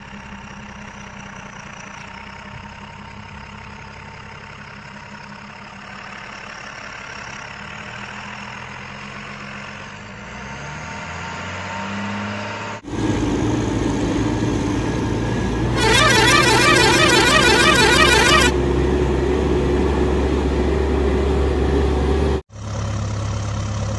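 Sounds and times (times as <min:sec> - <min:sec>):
diesel engine idling and revving: 0:00.0 - 0:23.9.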